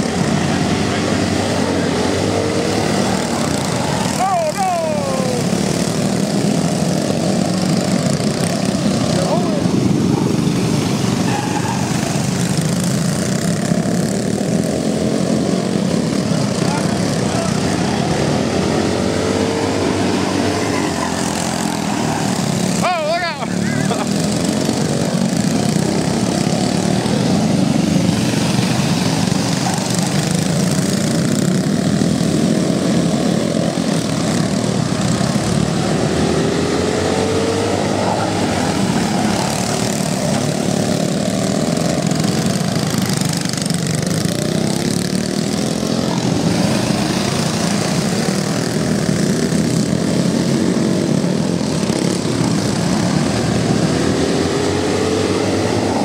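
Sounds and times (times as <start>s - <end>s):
go-kart engines racing: 0.0s - 56.0s.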